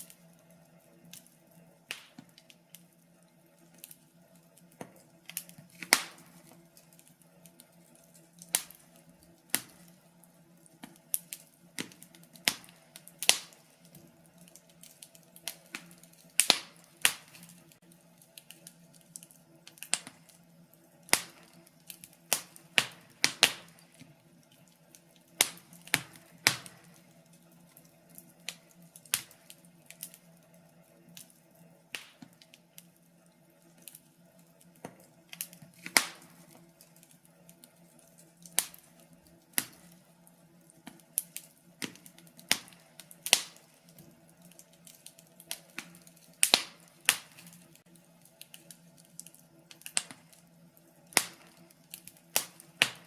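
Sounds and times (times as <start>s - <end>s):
faint steady hum: 0.0s - 53.0s
fire crackling and popping: 0.0s - 53.0s.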